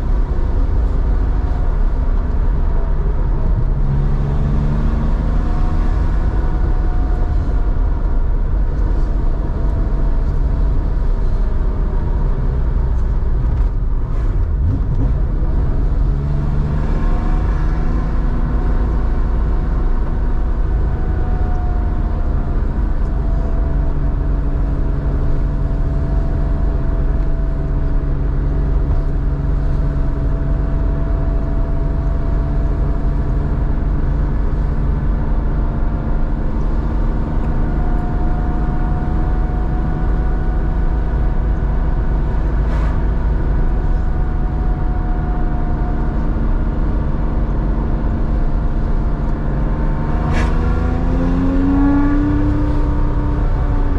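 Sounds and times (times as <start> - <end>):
car engine droning steadily: 0.0 - 53.9.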